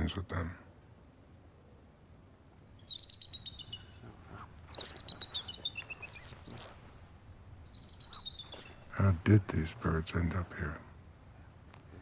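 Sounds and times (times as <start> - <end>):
faint outdoor background noise: 0.0 - 12.0
songbird chirping: 0.7 - 11.8.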